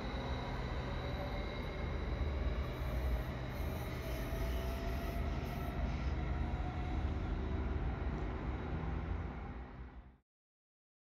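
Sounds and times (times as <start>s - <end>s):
electric train rumble: 0.0s - 10.2s
faint rising train whine: 0.0s - 10.2s.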